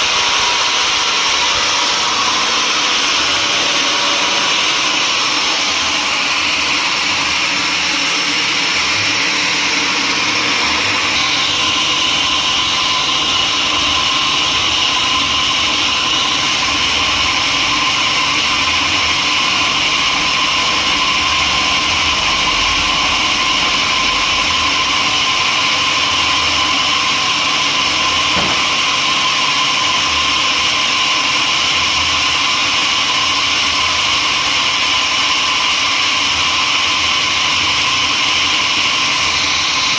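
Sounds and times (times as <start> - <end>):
high saw whine: 0.0 - 39.9
sawmill machinery running: 0.0 - 39.9.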